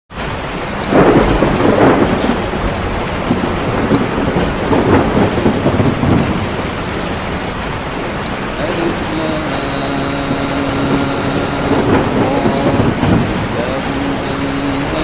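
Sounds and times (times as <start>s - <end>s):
heavy rain: 0.1s - 15.0s
rolling thunder: 0.2s - 15.0s.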